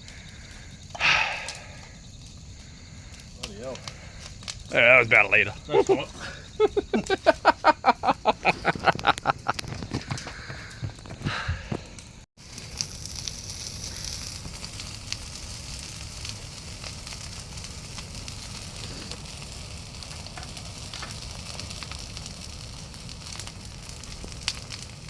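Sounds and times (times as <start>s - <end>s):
fire hissing and crackling: 0.0s - 25.0s.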